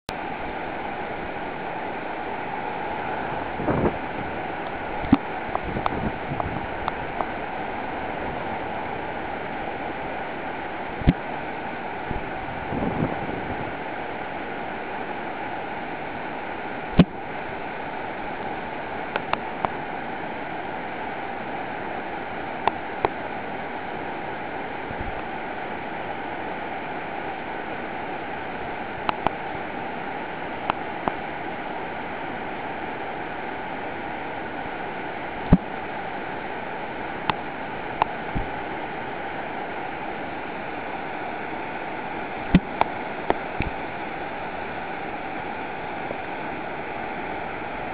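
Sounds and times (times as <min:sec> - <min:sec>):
river rushing over boulders: 0:00.1 - 0:47.9.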